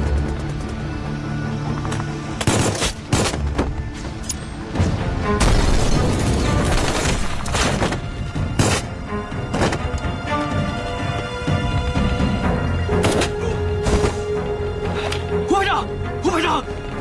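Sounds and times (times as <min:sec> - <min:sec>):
action film music: 0:00.0 - 0:17.0.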